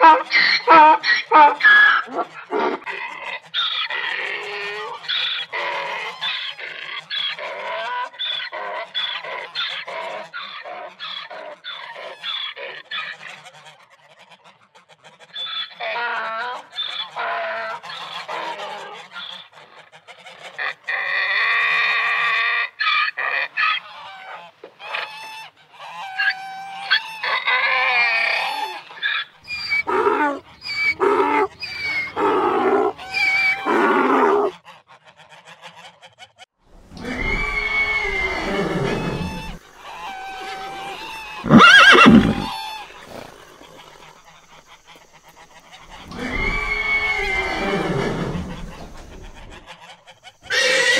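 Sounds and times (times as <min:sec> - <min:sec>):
waterfowl calling: 0:00.0 - 0:35.9, 0:36.9 - 0:50.9.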